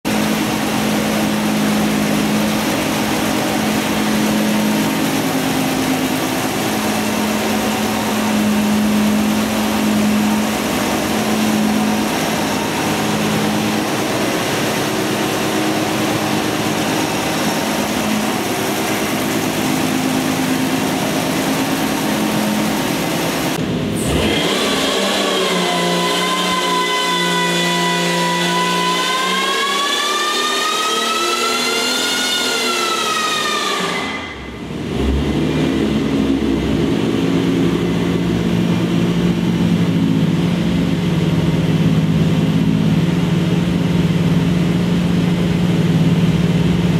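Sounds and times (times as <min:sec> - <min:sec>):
engine running on dyno: 0:00.0 - 0:46.9
strong steady tone: 0:00.1 - 0:46.9.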